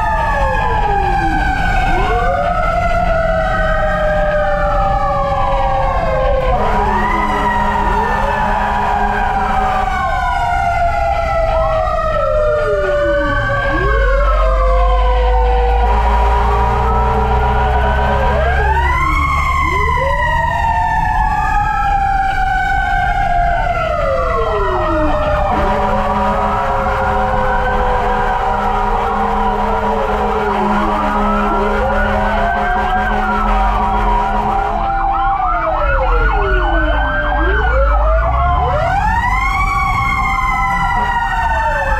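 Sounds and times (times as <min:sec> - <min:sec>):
fire engine sirens wailing: 0:00.0 - 0:41.9
low engine drone: 0:00.0 - 0:41.9.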